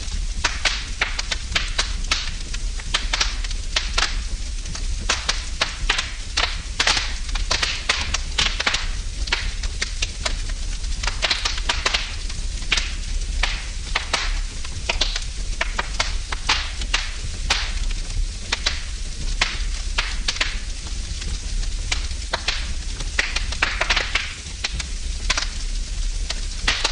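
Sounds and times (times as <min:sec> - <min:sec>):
fire hissing: 0:00.0 - 0:26.9
wood fire crackling and popping: 0:00.0 - 0:26.9.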